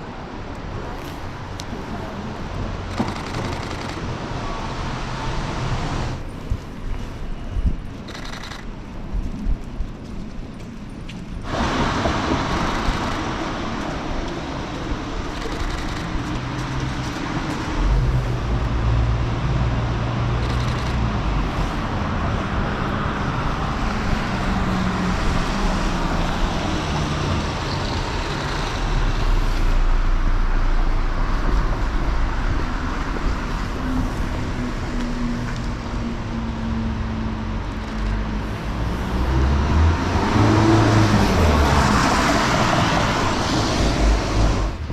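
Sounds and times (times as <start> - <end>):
low engine hum: 0.0 - 44.9
road noise: 0.0 - 44.9
vehicles passing: 0.0 - 44.9.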